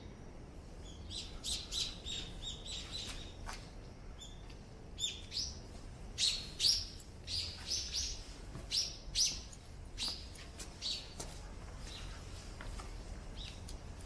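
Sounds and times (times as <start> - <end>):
small birds chirping: 0.7 - 14.0.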